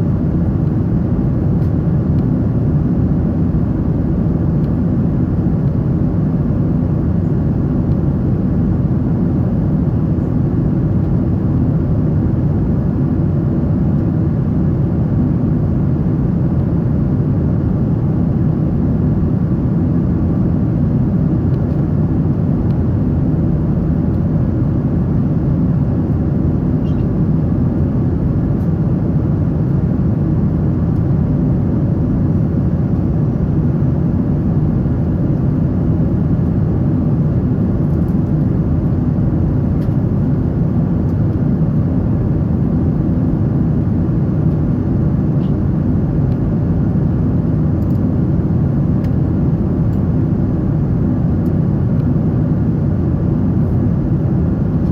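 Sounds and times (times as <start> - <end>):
airplane engines and airflow rumble: 0.0 - 54.9.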